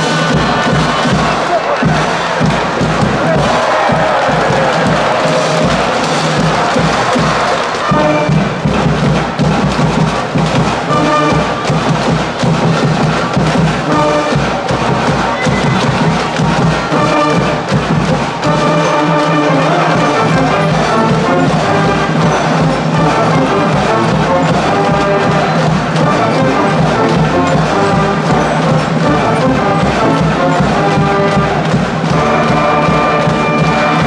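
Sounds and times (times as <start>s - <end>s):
brass band playing: 0.0s - 34.0s
drums beat: 0.0s - 34.0s.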